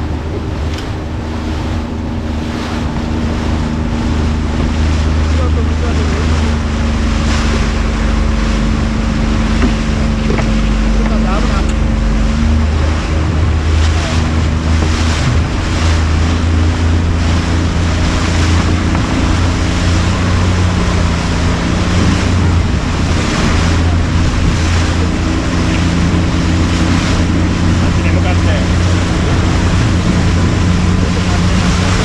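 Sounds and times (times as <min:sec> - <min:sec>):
boat motor droning: 0:00.0 - 0:32.0
water rushing against hull: 0:00.0 - 0:32.0
wind buffeting microphone: 0:00.0 - 0:32.0.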